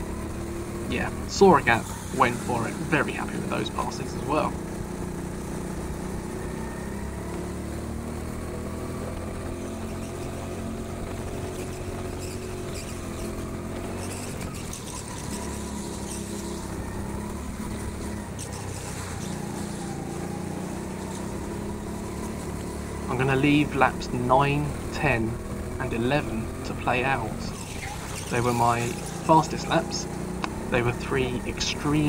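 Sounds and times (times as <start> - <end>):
go-kart engine: 0.0 - 32.0
tyre and track noise: 0.0 - 32.0.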